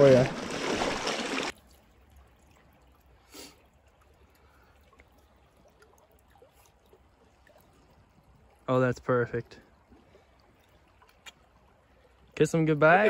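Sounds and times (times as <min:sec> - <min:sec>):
faint creek water running: 0:00.0 - 0:13.0.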